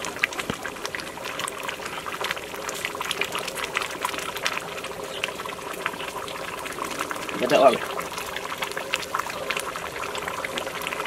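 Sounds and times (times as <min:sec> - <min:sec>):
pot boiling with popping bubbles: 0:00.0 - 0:11.0.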